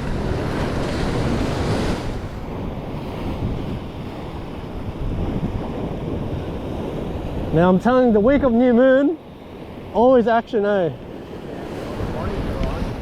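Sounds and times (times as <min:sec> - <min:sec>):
wind buffeting microphone: 0:00.0 - 0:10.2, 0:11.0 - 0:13.0
ocean swell washing on rocks: 0:00.0 - 0:13.0.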